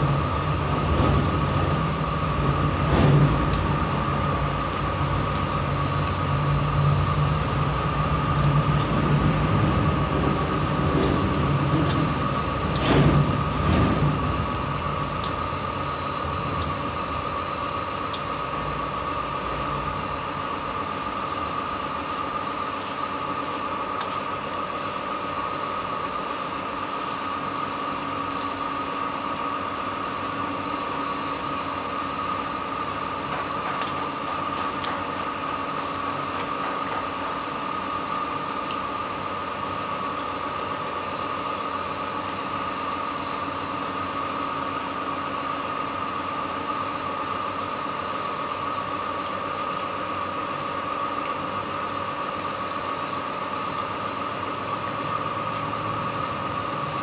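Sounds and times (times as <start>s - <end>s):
motor hum with high whine: 0.0s - 57.0s.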